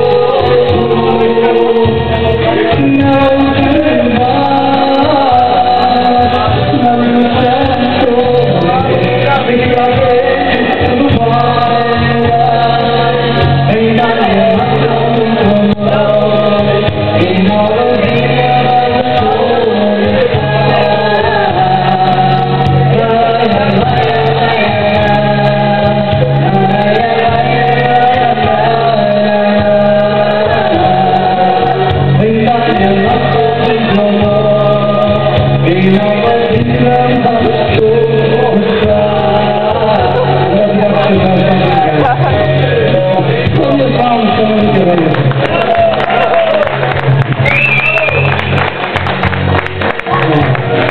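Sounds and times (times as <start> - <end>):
duo singing: 0.0 - 50.9
steady bass line: 0.0 - 50.9.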